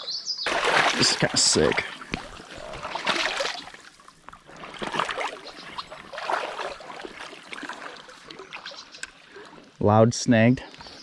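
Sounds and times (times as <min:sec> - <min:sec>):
water splashing: 0:00.5 - 0:09.8
stream water flowing: 0:00.5 - 0:10.8.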